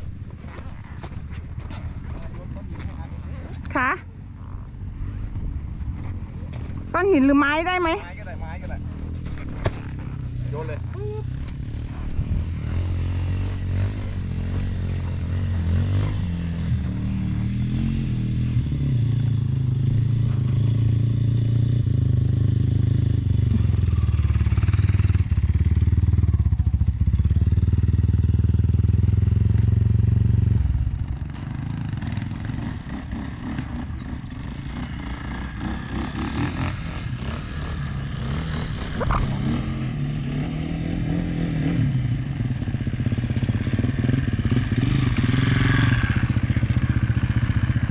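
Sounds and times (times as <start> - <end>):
dirt bike engine revving: 8.9 - 26.3, 27.0 - 47.9.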